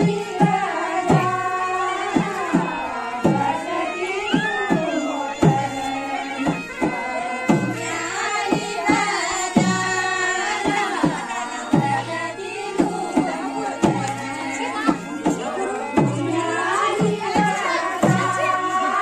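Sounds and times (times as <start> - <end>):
folk singing voices: 0.0 - 19.0.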